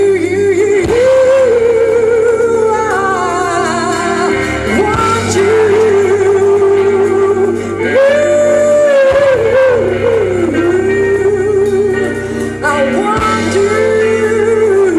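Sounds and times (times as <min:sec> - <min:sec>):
live band playing: 0:00.0 - 0:14.9
woman singing with vibrato: 0:00.0 - 0:14.9.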